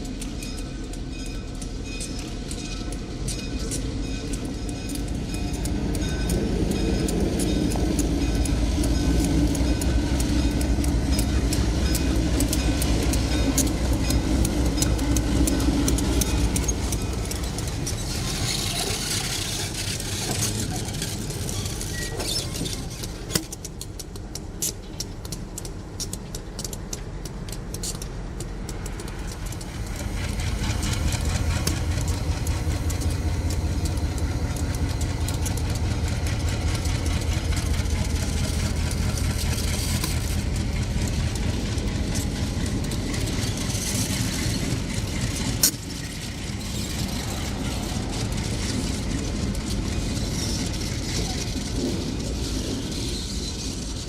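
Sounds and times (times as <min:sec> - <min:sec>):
locomotive rumble: 0:00.0 - 0:54.0
wheels clicking over rail joints: 0:00.0 - 0:54.0.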